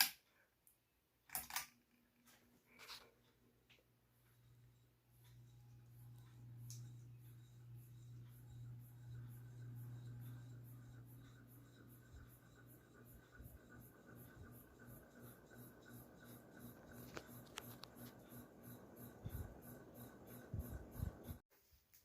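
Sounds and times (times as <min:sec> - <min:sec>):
ceiling fan motor hum: 0:02.3 - 0:21.4.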